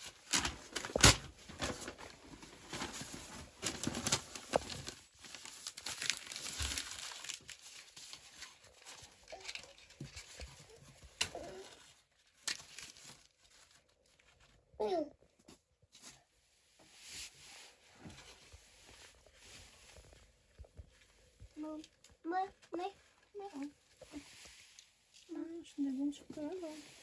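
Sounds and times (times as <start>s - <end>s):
rustling: 0.0s - 14.6s, 15.9s - 27.0s.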